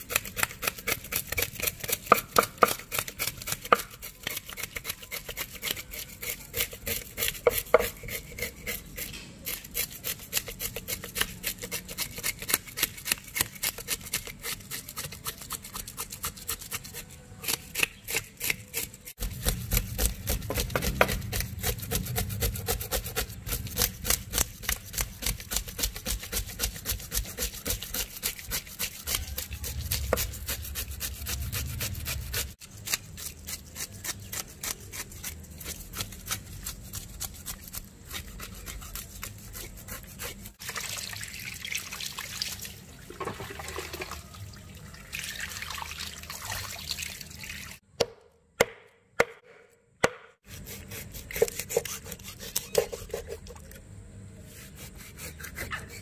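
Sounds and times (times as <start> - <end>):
knife scraping fish scales: 0.0 - 40.6, 50.4 - 53.8, 54.4 - 56.0.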